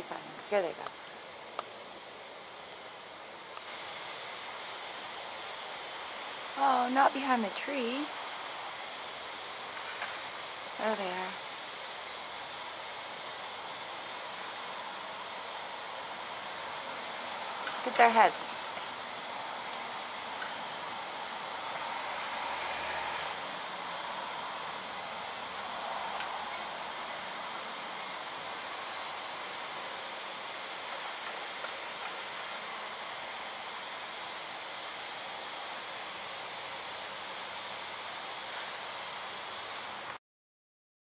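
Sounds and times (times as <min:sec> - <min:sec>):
outdoor background hiss: 0:00.0 - 0:40.2.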